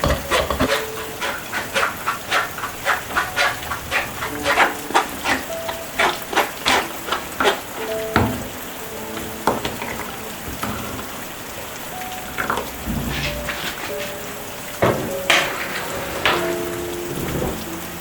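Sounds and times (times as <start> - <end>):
rain hiss: 0.0 - 18.0
raindrops plinking on surfaces: 0.0 - 18.0.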